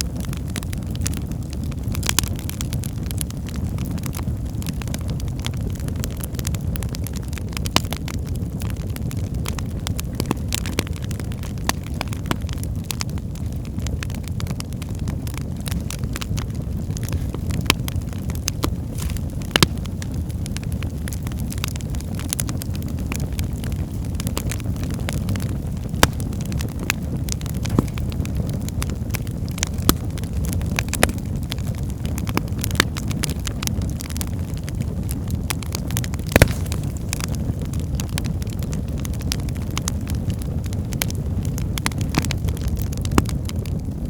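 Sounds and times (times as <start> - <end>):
fire flames rumbling: 0.0 - 44.0
logs crackling and popping: 0.0 - 44.0.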